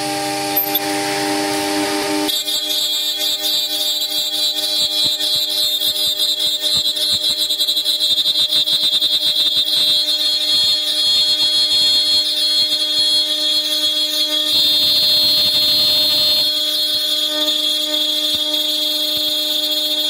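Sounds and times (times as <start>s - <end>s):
router spindle milling metal: 0.0s - 20.0s.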